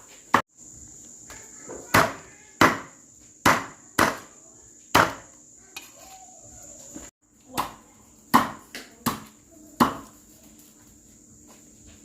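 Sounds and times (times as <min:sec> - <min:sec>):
insect chirring: 0:00.0 - 0:11.8.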